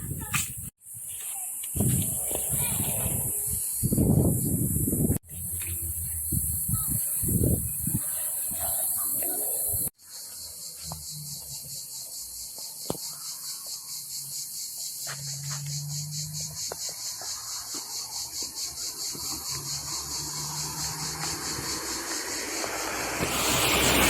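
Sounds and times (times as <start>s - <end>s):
insects buzzing chorus: 0.2s - 24.0s.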